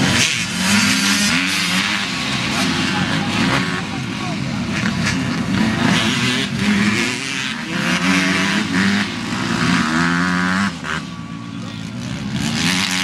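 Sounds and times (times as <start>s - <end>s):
dirt bikes revving past: 0.0s - 13.0s.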